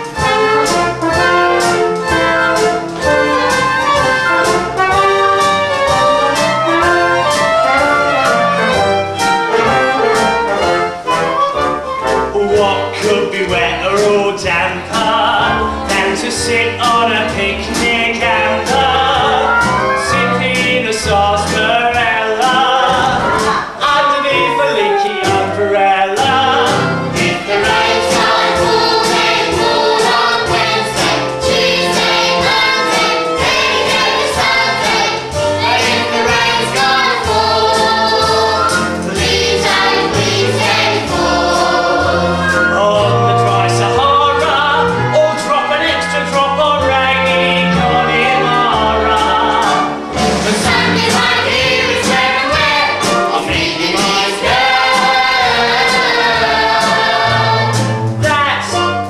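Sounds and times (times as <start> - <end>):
chorus singing show tune: 0.0 - 59.0
instrumental accompaniment with beat: 0.0 - 59.0.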